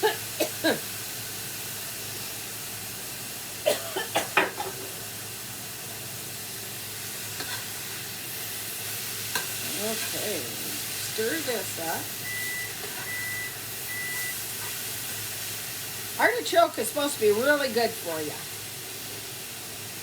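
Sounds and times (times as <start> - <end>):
meat sizzling in a frying pan: 0.0 - 20.0.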